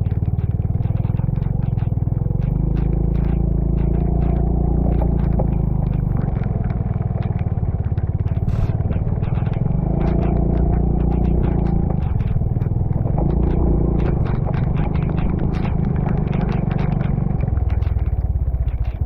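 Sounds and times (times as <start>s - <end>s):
ticks and clattering knocks: 0.0s - 19.0s
vehicle engine droning: 0.0s - 19.0s.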